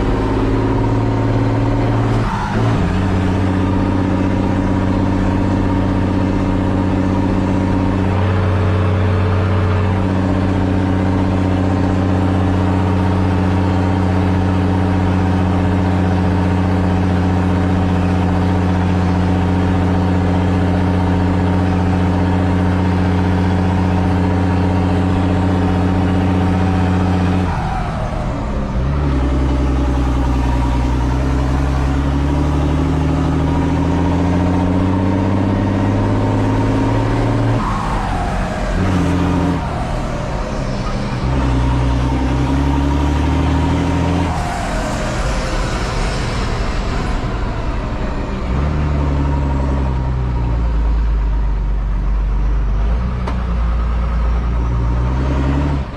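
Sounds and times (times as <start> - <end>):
short falling whine: 0.0 - 17.0, 21.6 - 51.7
tractor diesel engine under load: 0.0 - 55.9.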